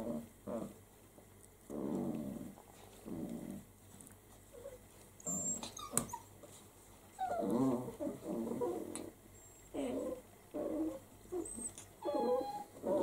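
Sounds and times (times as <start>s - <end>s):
puppies growling and whimpering: 0.0s - 0.8s, 1.6s - 3.7s, 4.5s - 6.5s, 7.1s - 13.0s.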